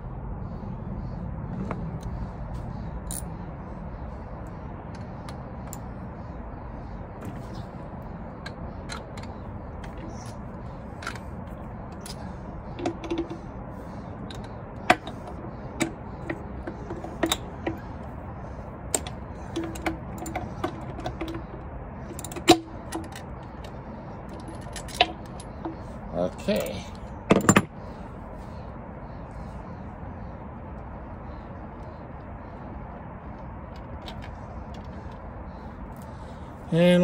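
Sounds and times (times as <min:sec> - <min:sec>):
low background hum: 0:00.0 - 0:37.0.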